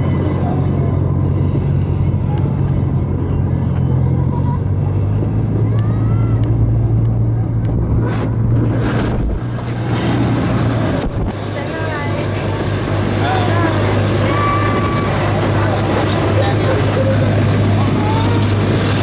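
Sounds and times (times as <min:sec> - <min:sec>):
small train engine drone: 0:00.0 - 0:19.0.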